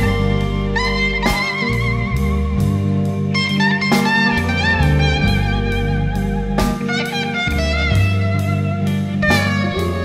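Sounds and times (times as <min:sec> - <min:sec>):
bass: 0:00.0 - 0:10.0
drums steady beat: 0:00.0 - 0:10.0
lead guitar with bending notes: 0:00.0 - 0:10.0.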